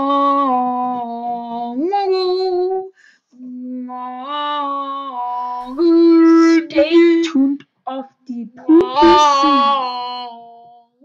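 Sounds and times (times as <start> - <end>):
person singing wordless tune: 0.0 - 11.0.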